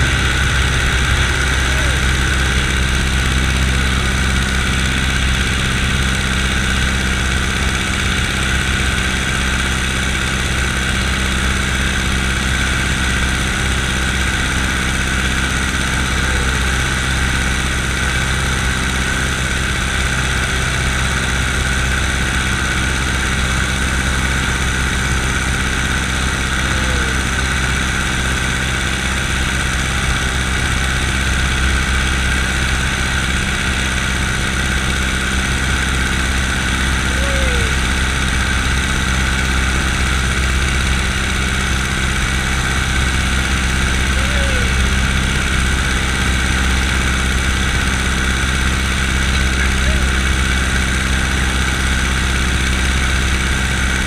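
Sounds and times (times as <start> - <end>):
plane engine running: 0.0 - 54.0.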